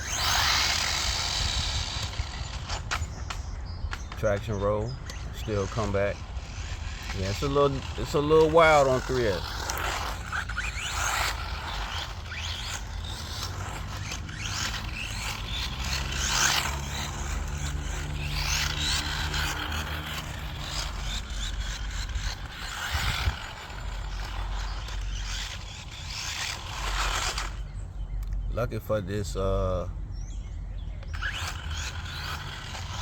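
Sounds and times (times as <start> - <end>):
rc truck electric motor: 0.0 - 28.5, 31.0 - 33.0
tyres scrabbling over ground: 0.0 - 28.5, 31.0 - 33.0.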